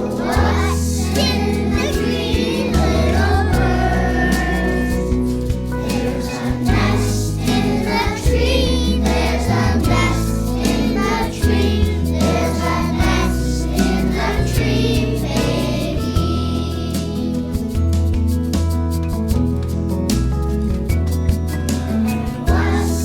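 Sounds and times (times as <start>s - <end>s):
children singing together: 0.0s - 17.6s, 21.9s - 23.0s
instrumental accompaniment with bass: 0.0s - 23.0s.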